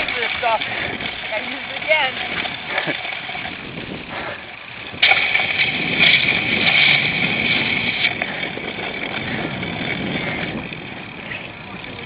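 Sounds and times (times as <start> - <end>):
bicycle low rumble: 0.0 - 12.0.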